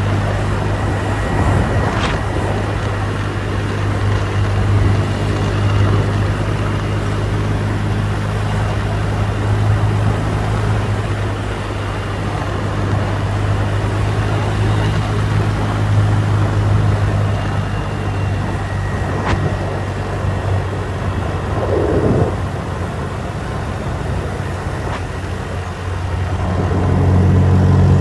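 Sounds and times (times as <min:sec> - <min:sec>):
motorbike engine running: 0:00.0 - 0:28.0
wind and road noise: 0:00.0 - 0:28.0.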